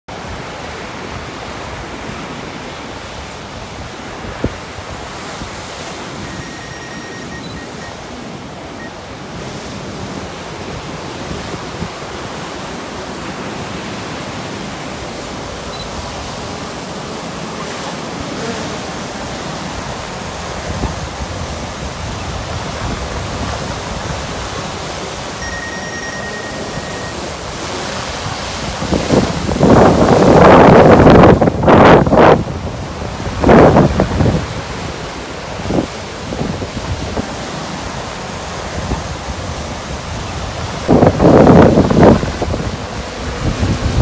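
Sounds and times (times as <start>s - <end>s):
surf breaking on beach: 0.1s - 44.0s
wind buffeting microphone: 0.2s - 25.4s, 26.3s - 44.0s.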